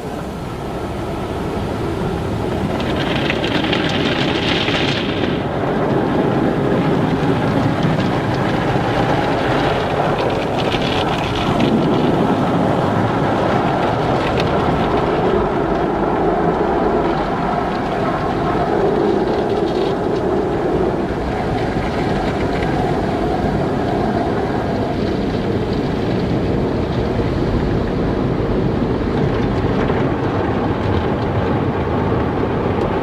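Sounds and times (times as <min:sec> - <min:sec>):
water spraying against car: 0:00.0 - 0:29.1
machinery rumble: 0:00.0 - 0:33.0.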